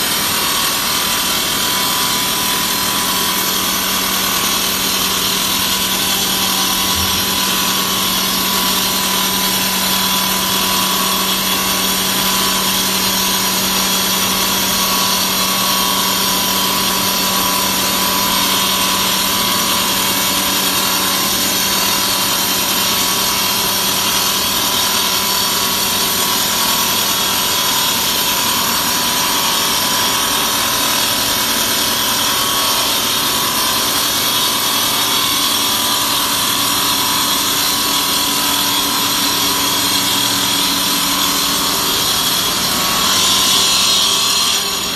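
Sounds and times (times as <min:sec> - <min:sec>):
saw blade cutting stone: 0:00.0 - 0:44.9.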